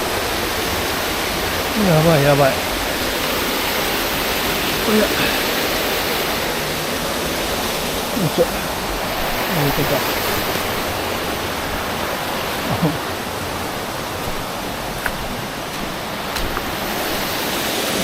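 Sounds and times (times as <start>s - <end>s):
stream flowing over rocks: 0.0s - 18.0s.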